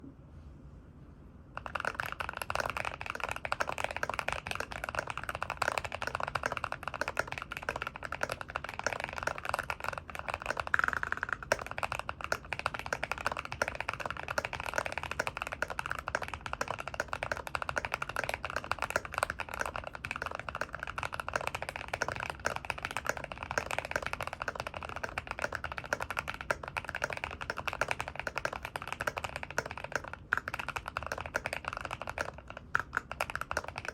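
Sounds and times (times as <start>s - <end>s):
typing on a mechanical keyboard: 1.6s - 33.9s.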